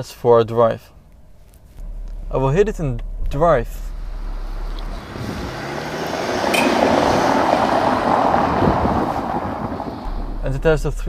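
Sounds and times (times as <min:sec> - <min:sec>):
road noise inside car: 0:00.9 - 0:11.0
diesel engine pulling away: 0:01.1 - 0:11.0.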